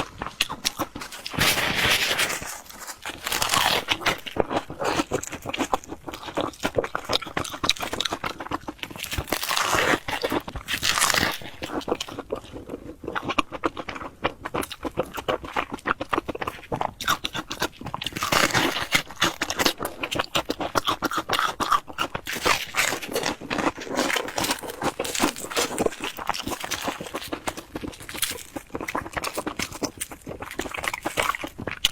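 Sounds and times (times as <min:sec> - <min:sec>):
crunching and chewing fried bread: 0:00.0 - 0:31.9.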